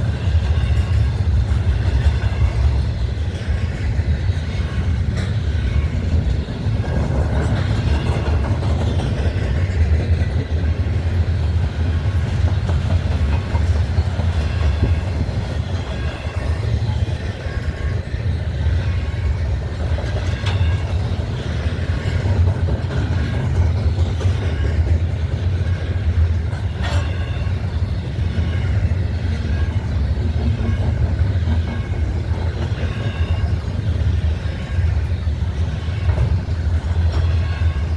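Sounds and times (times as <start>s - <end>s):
freight train rumbling past: 0.0s - 37.9s
steel wheels clattering on rails: 0.0s - 37.9s.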